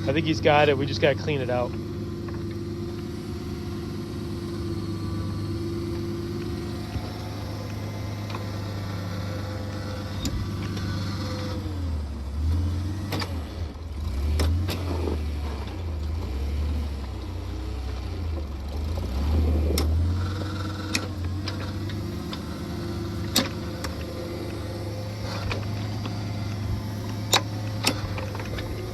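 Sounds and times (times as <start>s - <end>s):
auger engine running: 0.0s - 28.9s.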